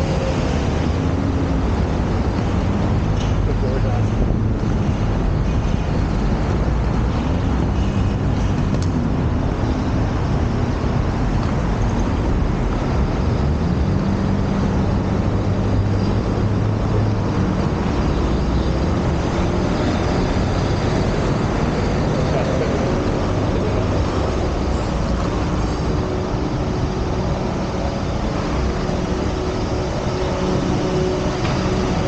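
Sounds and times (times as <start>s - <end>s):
passing road traffic: 0.0s - 32.0s.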